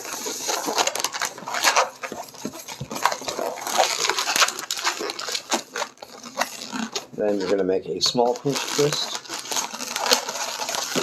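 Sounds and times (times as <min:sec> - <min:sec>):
balloon squeaking: 0:00.0 - 0:11.0.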